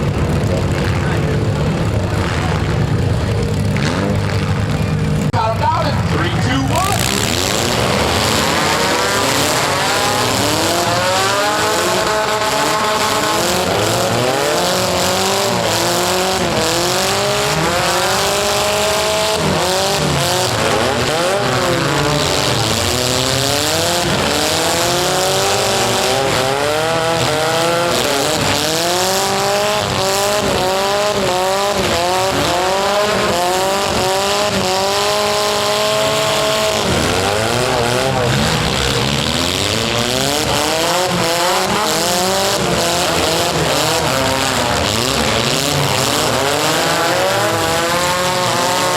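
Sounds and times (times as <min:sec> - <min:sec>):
car engines revving: 0:00.0 - 0:48.9.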